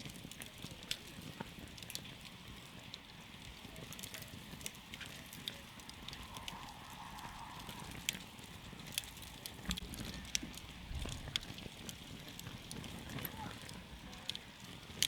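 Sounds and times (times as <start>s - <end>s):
campfire crackling and popping: 0.0s - 15.0s
low rumble and hiss of flames: 0.0s - 15.0s.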